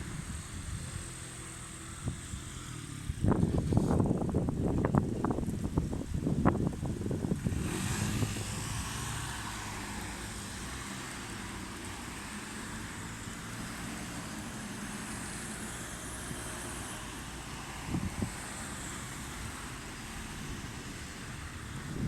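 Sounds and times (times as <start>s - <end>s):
steady outdoor hiss: 0.0s - 22.0s
wind buffeting microphone: 0.0s - 22.0s.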